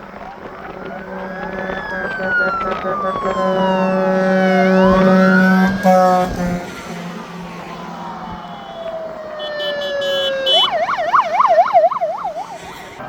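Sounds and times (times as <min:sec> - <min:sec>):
fast warbling siren: 0:00.0 - 0:13.0
siren wail falling in pitch: 0:00.0 - 0:13.0
horn blast: 0:00.7 - 0:13.0.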